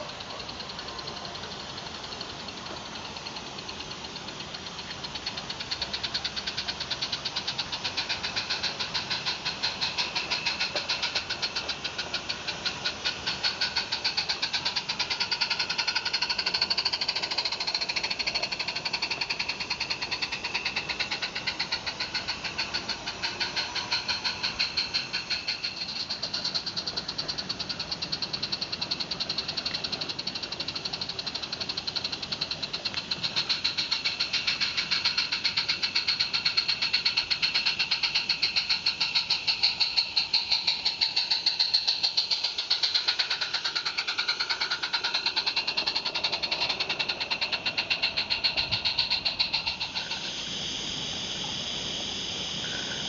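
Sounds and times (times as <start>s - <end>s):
steam locomotive chuffing: 0.0s - 53.0s.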